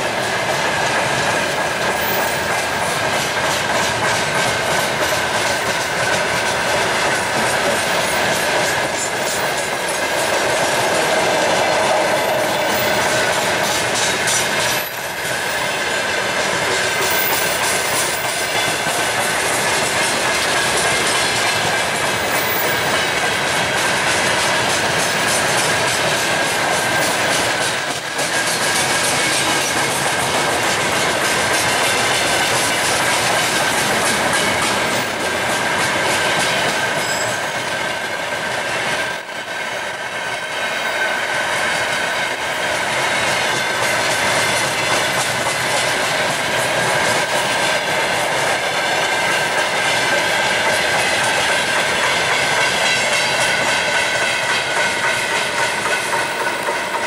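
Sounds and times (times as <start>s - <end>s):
clickety-clack over rail joints: 0.0s - 57.0s
freight wagons rumbling on rails: 0.0s - 57.0s.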